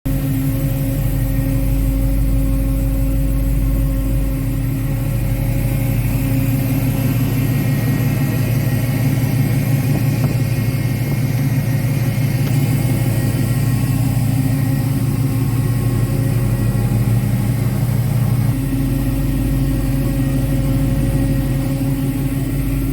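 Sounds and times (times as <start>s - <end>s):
car engine running: 0.1s - 22.9s.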